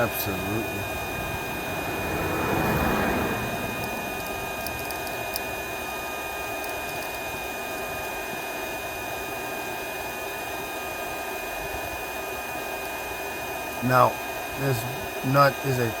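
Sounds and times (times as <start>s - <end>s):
induction heater whooshing and whining: 0.0s - 16.0s.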